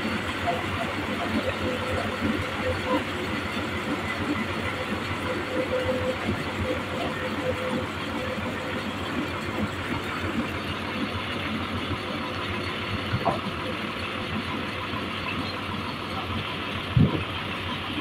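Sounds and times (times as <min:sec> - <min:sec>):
sawmill machinery running: 0:00.0 - 0:18.0.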